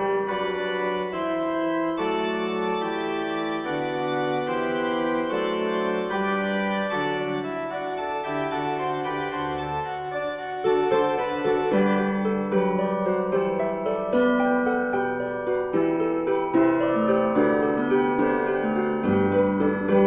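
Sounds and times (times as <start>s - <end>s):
slow keyboard chords: 0.0s - 20.0s.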